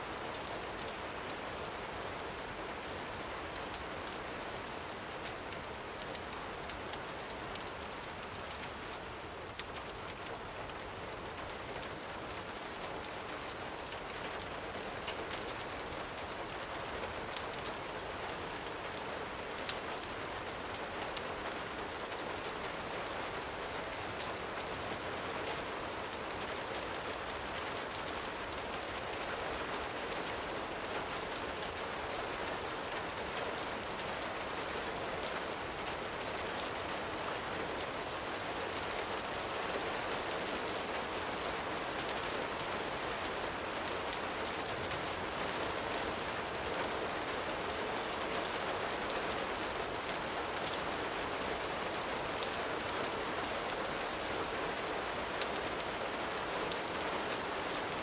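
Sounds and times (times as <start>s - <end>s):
gentle rain falling: 0.0s - 58.0s.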